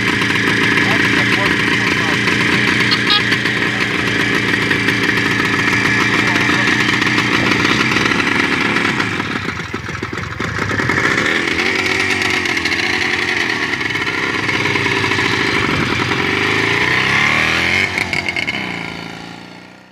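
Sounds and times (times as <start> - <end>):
two-stroke engine running: 0.0 - 19.9.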